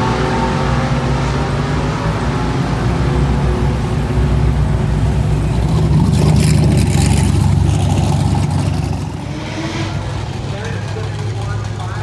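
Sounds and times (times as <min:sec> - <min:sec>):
racing car passing: 0:00.0 - 0:12.0.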